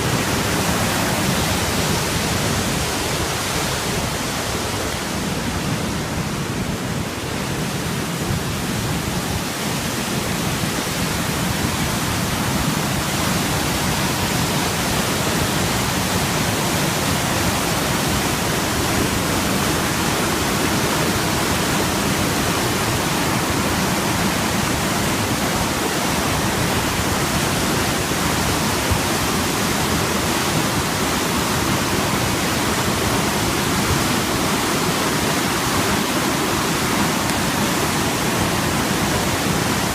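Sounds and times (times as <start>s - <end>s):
flooding creek water rushing: 0.0s - 39.9s.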